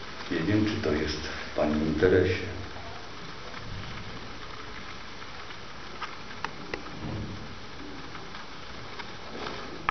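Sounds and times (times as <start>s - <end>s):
room hiss: 0.0s - 9.9s.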